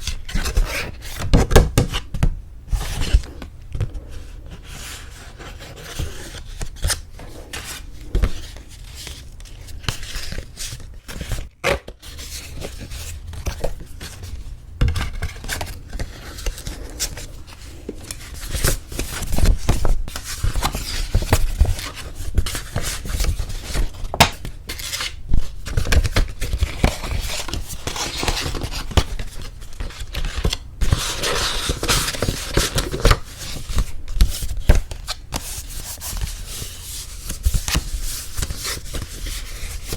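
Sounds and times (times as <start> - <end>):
paper crinkling and rustling: 2.7 - 39.9.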